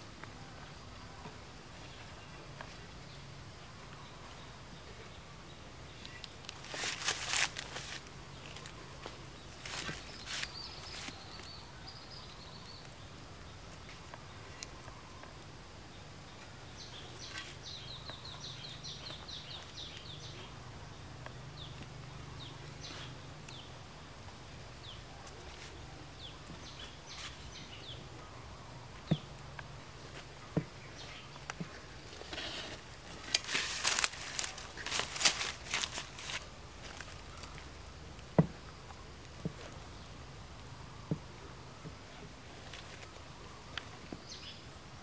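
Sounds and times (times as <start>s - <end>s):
birds calling: 0.0s - 44.7s
bird chirping: 0.0s - 44.8s.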